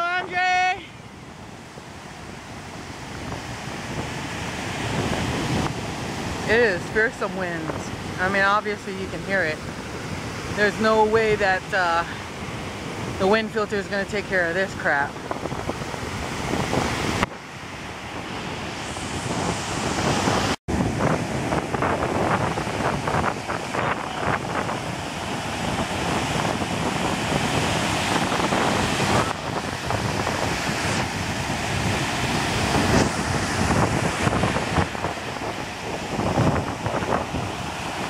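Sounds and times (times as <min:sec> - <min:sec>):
surf breaking on beach: 0:00.0 - 0:38.0
wind buffeting microphone: 0:00.0 - 0:38.0.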